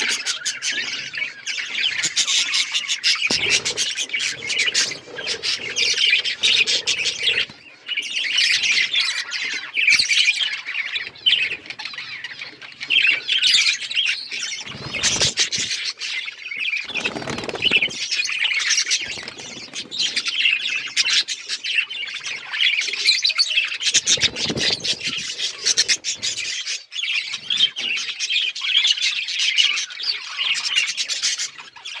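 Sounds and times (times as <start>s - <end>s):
budgies chattering and warbling: 0.0s - 32.0s.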